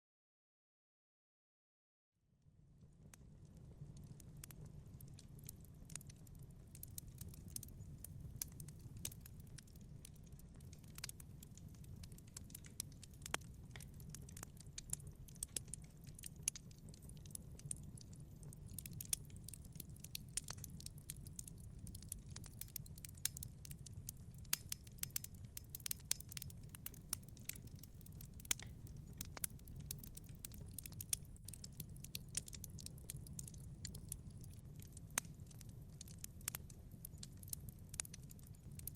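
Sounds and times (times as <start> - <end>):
rumble of flames: 2.6 - 38.9
burning wood crackling: 3.9 - 38.9.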